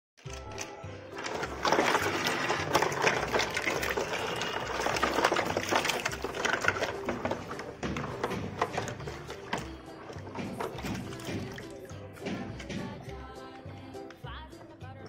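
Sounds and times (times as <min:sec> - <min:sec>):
toy cars clicking and knocking: 0:00.2 - 0:15.0
water splashing in plastic tub: 0:01.2 - 0:13.9.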